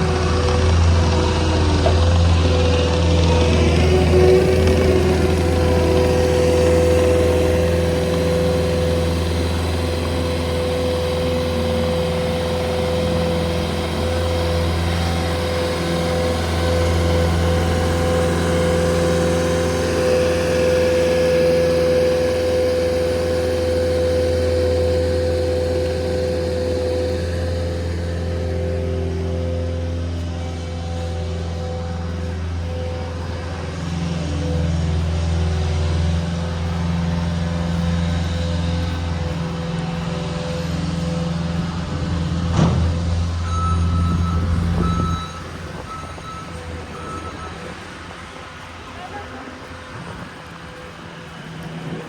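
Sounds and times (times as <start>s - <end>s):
steady machine drone: 0.0s - 52.0s.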